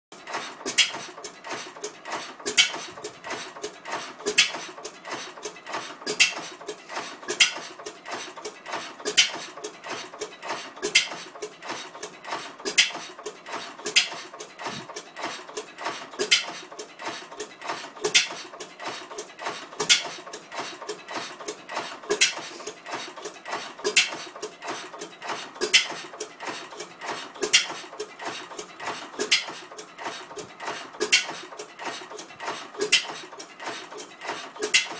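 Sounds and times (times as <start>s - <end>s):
stationary gas engine clattering: 0.1s - 34.9s.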